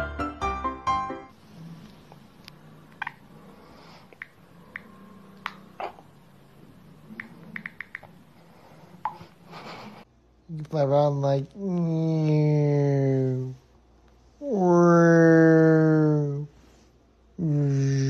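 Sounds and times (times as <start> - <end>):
low steady hum: 1.3 - 18.0.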